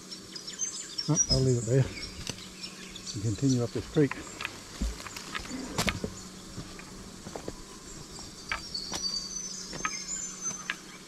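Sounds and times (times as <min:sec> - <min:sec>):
footsteps on stones and leaves: 0:01.3 - 0:11.0.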